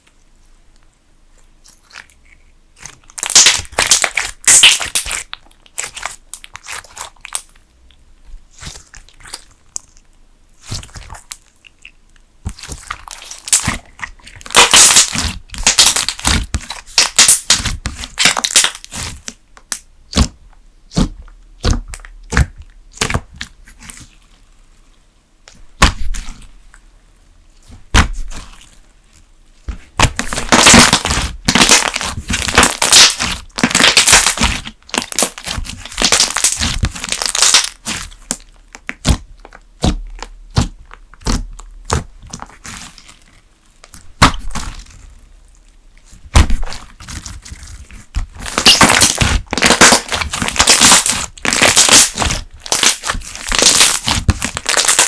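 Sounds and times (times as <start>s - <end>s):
slime squishing and crackling: 1.3s - 26.9s, 27.5s - 55.0s.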